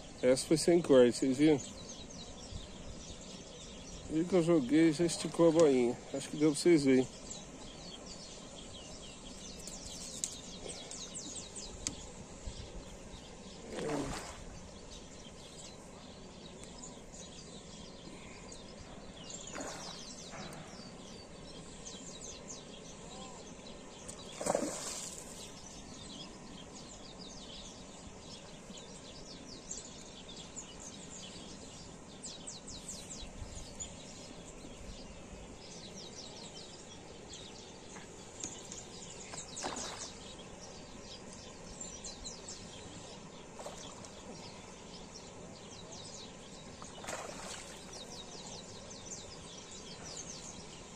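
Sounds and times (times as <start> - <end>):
bird chirps: 0.0 - 50.9
steady low hiss: 0.0 - 50.9.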